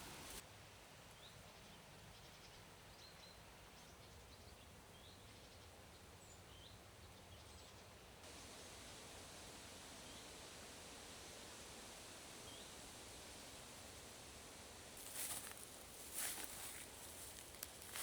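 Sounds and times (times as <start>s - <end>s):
soft steady hiss: 0.0s - 18.0s.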